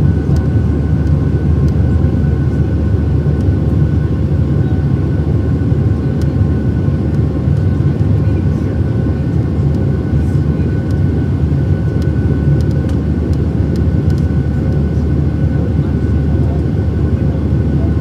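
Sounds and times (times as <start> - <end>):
faint steady whines: 0.0 - 18.0
jet engines low roar: 0.0 - 18.0.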